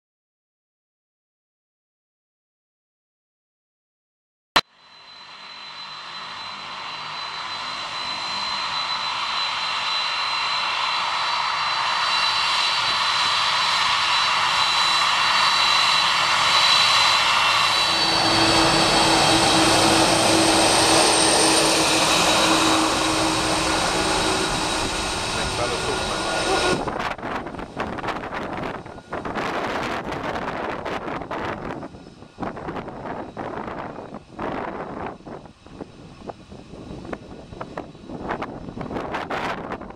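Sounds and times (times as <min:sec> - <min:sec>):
jet engines taxiing: 0:04.6 - 0:39.9.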